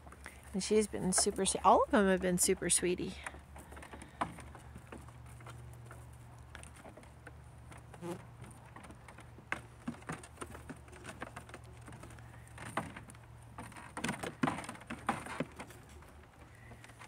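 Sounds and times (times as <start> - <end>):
hooves tapping on wood: 0.0 - 17.0.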